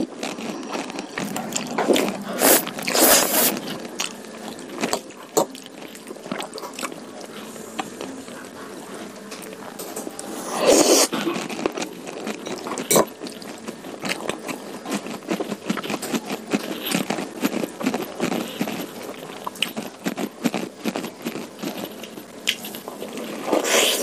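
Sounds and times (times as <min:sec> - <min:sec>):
person chewing food: 0:00.0 - 0:09.6, 0:10.2 - 0:24.0.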